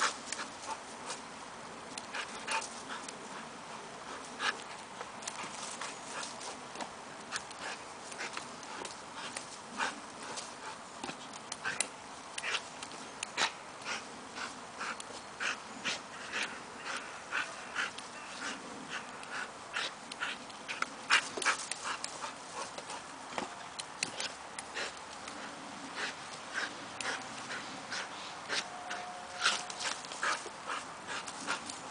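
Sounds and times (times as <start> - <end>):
dog panting and snorting: 0.0 - 1.3, 1.9 - 31.9.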